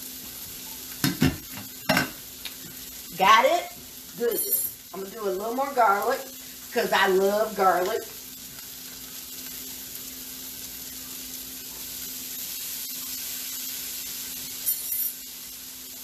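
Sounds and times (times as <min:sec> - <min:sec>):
vegetables sizzling in a skillet: 0:00.0 - 0:16.0.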